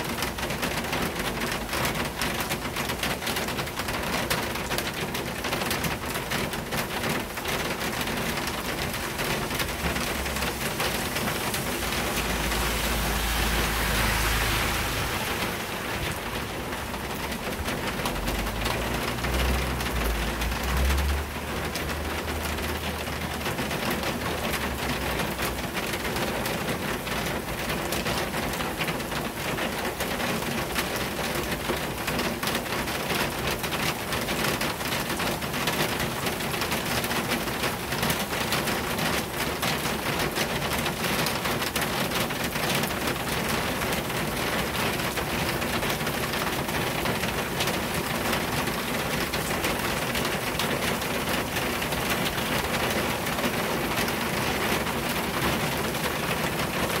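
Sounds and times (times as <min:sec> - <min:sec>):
rain drumming on awning: 0:00.0 - 0:57.0
rain splashing on wet street: 0:00.0 - 0:57.0.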